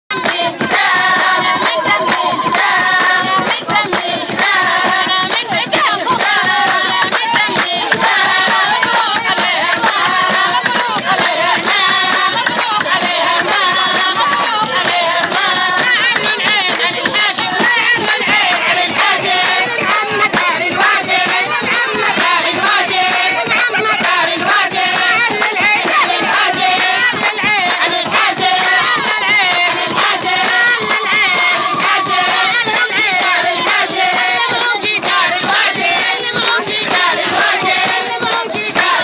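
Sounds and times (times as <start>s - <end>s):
hand claps: 0.1s - 39.0s
women singing together: 0.1s - 39.0s.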